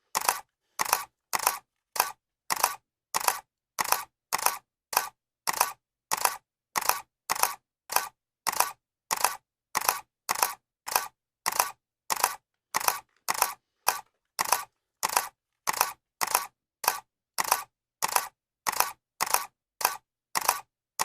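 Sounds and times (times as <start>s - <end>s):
camera shutter clicking: 0.1s - 20.7s.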